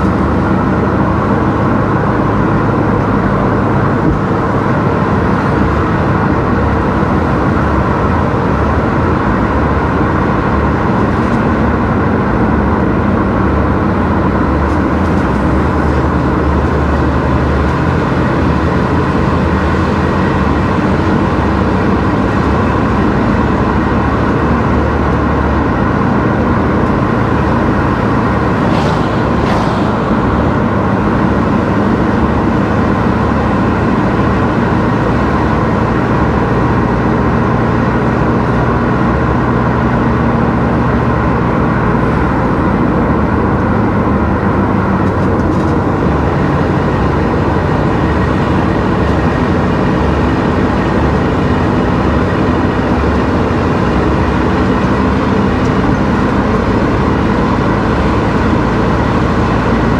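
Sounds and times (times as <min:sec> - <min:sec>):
car engine: 0:00.0 - 0:59.9
tyre noise on road: 0:00.0 - 0:59.9.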